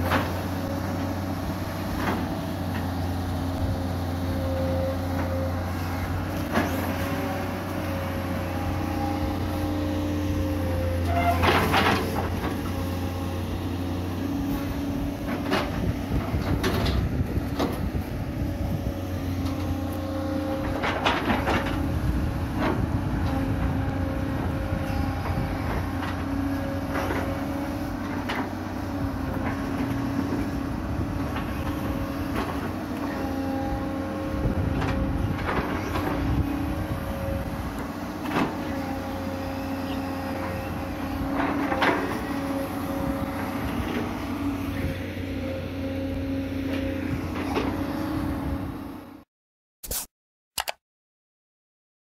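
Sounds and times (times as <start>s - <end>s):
excavator diesel engine running: 0.0s - 49.2s.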